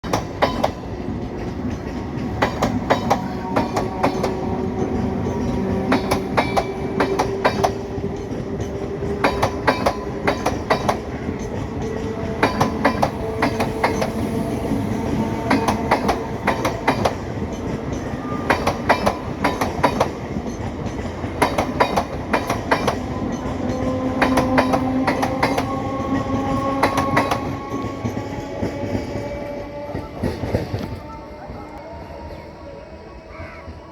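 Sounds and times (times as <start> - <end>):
train wheels clicking over rail joints: 0.0 - 31.1
rising train motor whine: 0.1 - 33.9.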